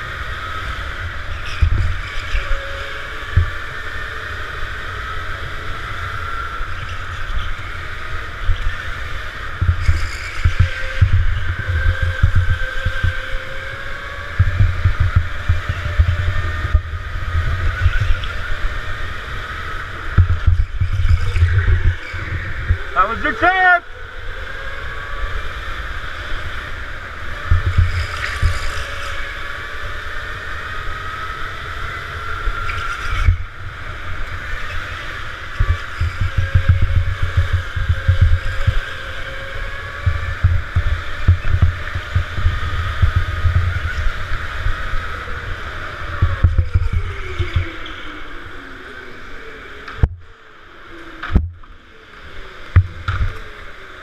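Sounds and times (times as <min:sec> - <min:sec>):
electric motor whine: 0:00.0 - 0:54.0
rumble of vibration and wind: 0:00.0 - 0:54.0.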